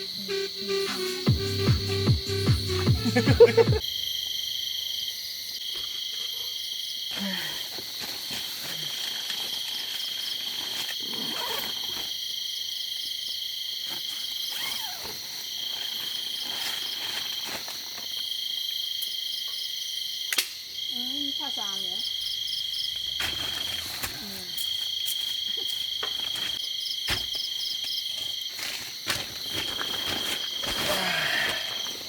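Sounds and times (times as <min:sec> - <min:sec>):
insects trilling high: 0:00.0 - 0:32.0
lower insect trill: 0:00.0 - 0:32.0.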